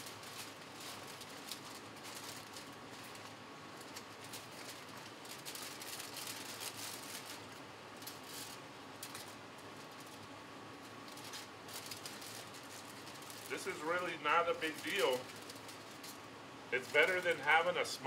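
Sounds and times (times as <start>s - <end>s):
aluminum foil crinkling: 0.0s - 18.0s
steady hiss: 0.0s - 18.0s.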